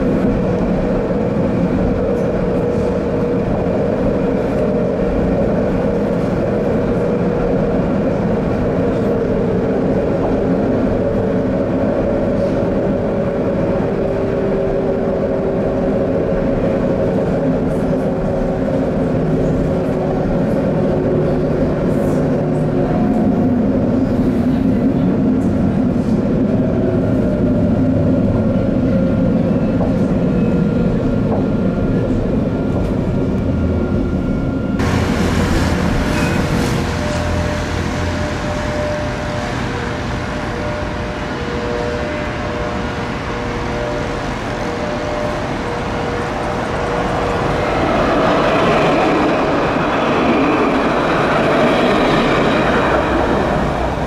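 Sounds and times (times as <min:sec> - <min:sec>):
approaching tram humming: 0:00.0 - 0:54.0
tram running noise: 0:00.0 - 0:54.0.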